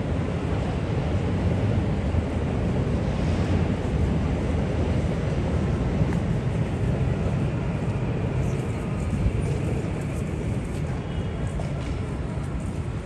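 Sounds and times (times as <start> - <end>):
road traffic rumble: 0.0 - 13.0
urban noise: 0.0 - 13.0.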